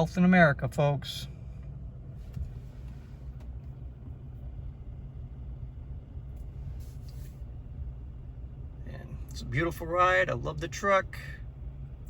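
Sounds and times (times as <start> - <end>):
truck engine rumble in cabin: 0.0 - 12.0.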